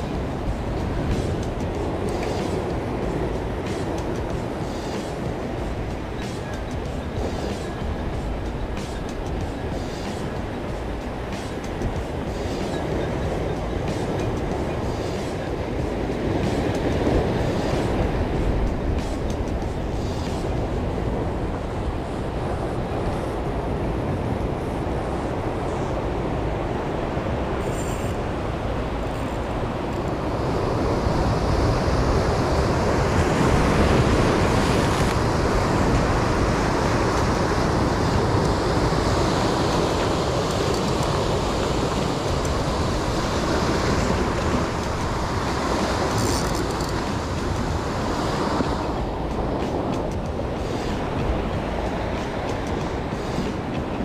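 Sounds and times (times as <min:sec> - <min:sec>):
ocean surf breaking on rocks: 0:00.0 - 0:54.0.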